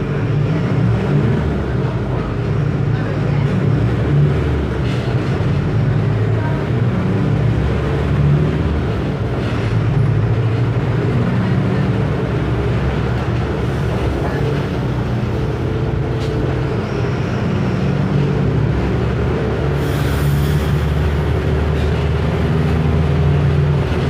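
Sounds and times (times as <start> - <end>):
diesel bus engine running: 0.0 - 24.0.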